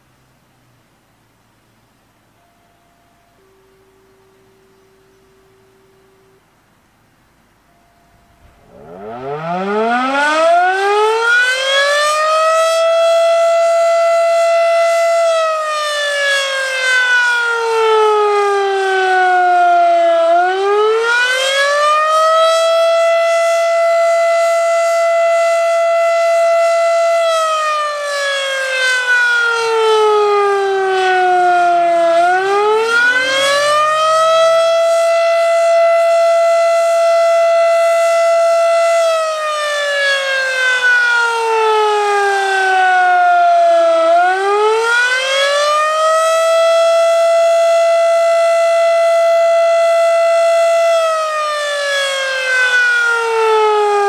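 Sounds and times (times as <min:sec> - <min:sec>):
warning siren wailing: 0:02.4 - 0:06.6, 0:07.6 - 0:54.0.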